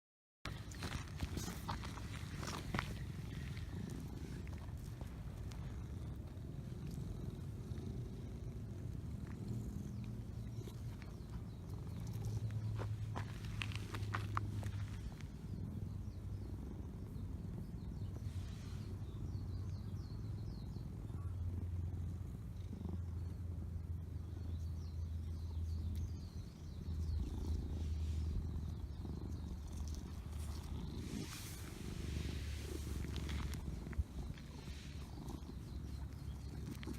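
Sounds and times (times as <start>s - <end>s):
cat purring: 0.5s - 36.9s.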